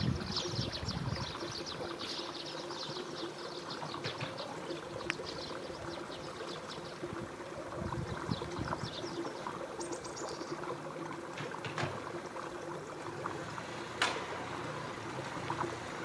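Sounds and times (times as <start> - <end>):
river water babbling over shallows: 0.0 - 16.0.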